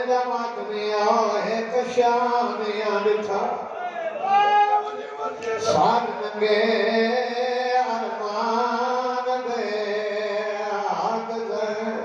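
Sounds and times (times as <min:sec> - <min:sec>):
man chanting into a microphone: 0:00.0 - 0:03.7, 0:05.0 - 0:12.0.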